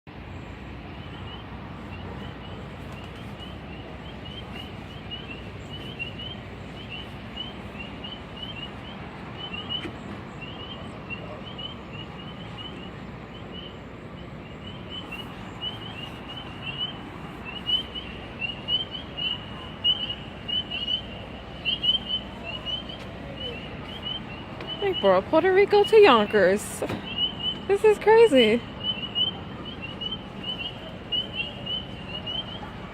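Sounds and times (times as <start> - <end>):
steady background hum: 0.1 - 32.9
frogs chirping from speaker: 0.3 - 32.9.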